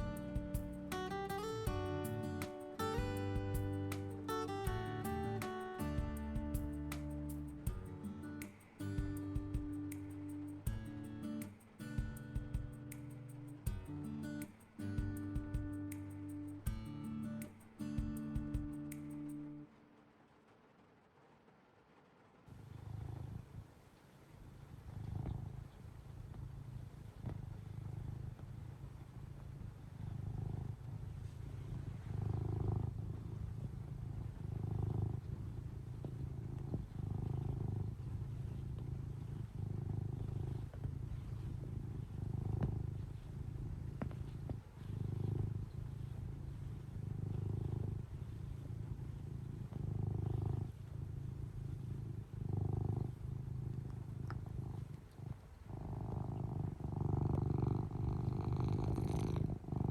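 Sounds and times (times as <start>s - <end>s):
cat purring: 0.0s - 19.8s, 22.5s - 59.9s.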